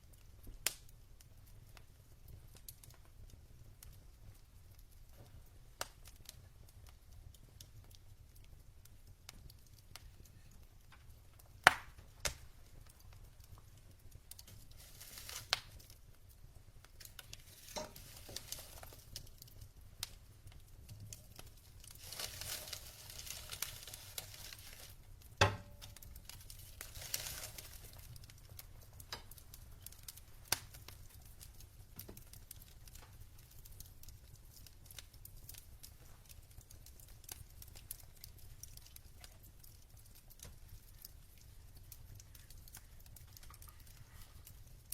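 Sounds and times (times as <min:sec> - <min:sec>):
burning logs crackling: 0:00.0 - 0:44.9
fire sharp pops: 0:00.0 - 0:44.9
soft fire hissing: 0:00.0 - 0:44.9.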